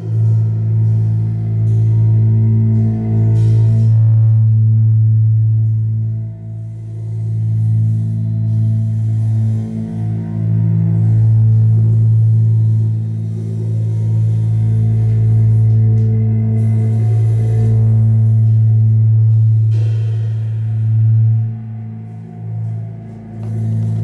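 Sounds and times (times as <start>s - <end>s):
chamber ensemble low drone: 0.0s - 24.0s.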